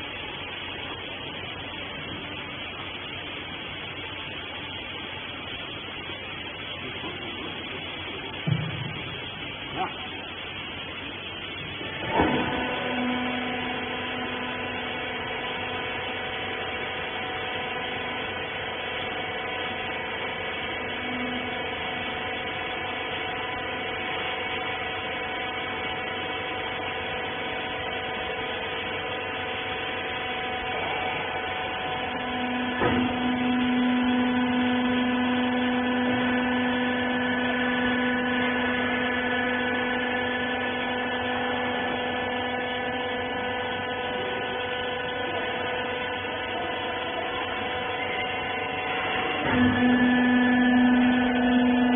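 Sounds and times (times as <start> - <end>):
electric hum of baler: 0.0 - 51.9.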